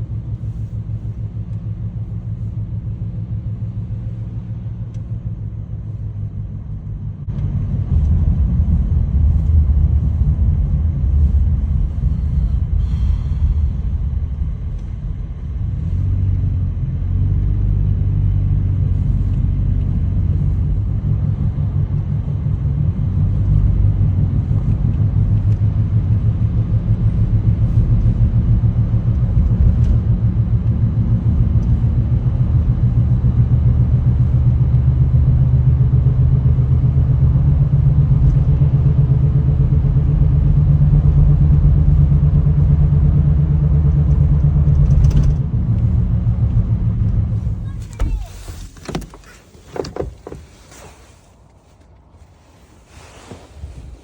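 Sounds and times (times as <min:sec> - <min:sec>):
car engine rumble: 0:00.0 - 0:54.0.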